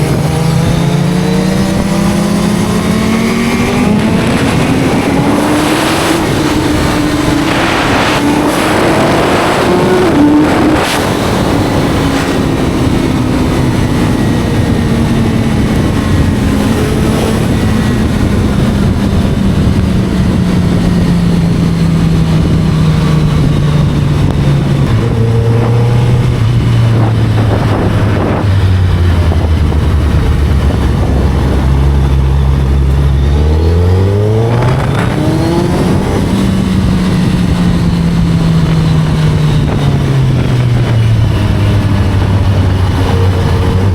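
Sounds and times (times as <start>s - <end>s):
motorcycle engine revving: 0.0s - 43.9s
wind rush: 0.0s - 43.9s.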